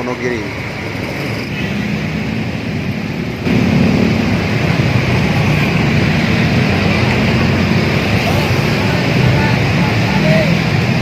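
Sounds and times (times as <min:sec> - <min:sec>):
bus engine running: 0:00.0 - 0:11.0
road traffic noise: 0:00.0 - 0:11.0.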